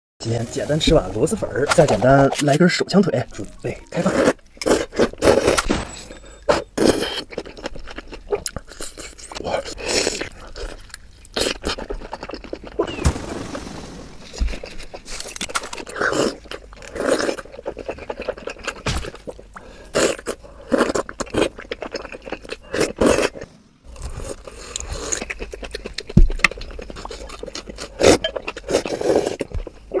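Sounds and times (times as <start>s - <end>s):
food crunching: 0.7s - 13.3s, 14.2s - 30.0s
person slurping and chewing: 3.4s - 5.6s, 6.4s - 13.0s, 14.3s - 30.0s.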